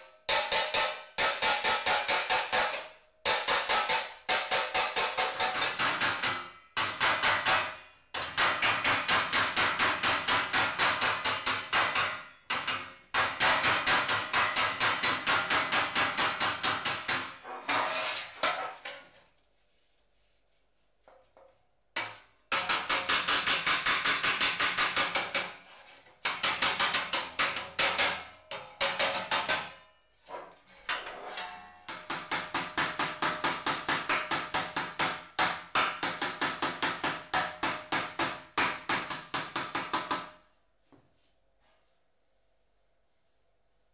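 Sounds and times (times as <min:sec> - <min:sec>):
hammer striking sheet metal: 0:00.0 - 0:19.1, 0:22.0 - 0:40.5.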